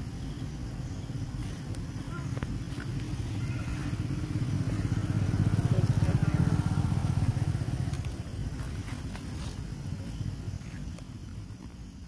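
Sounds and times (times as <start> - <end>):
passing vehicle engine rumble: 0.0 - 11.6.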